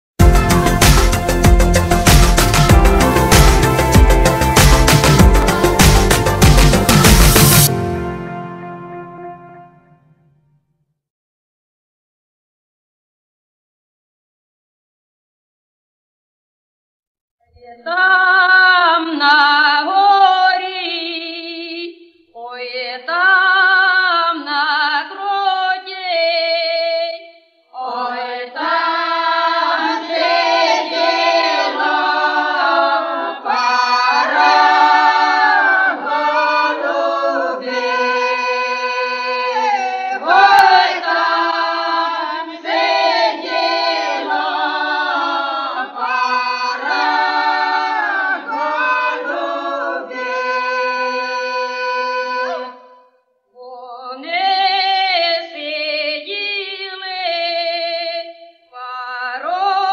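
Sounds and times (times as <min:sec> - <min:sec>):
a cappella singing: 0:00.2 - 0:07.8, 0:17.5 - 0:53.0, 0:53.6 - 0:59.9.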